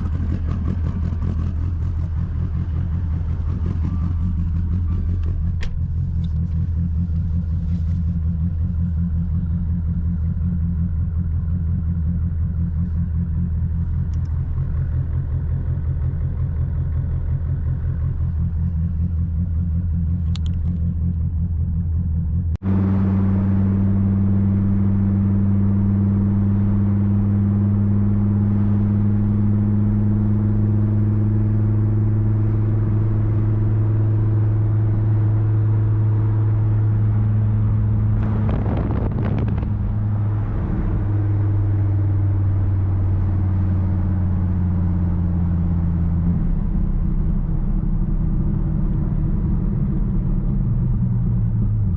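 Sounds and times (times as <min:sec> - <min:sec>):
car engine droning: 0:00.0 - 0:51.9.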